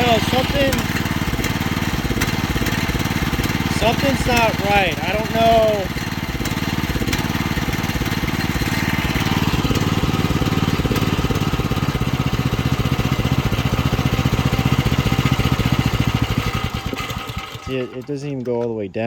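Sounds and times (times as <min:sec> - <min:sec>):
small engine running rough: 0:00.0 - 0:18.7.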